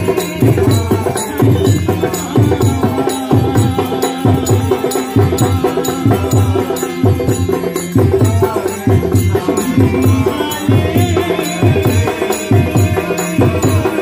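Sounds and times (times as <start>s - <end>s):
jingling hand percussion: 0.0s - 14.0s
man singing into a microphone: 0.0s - 14.0s
steady drum beat: 0.0s - 14.0s.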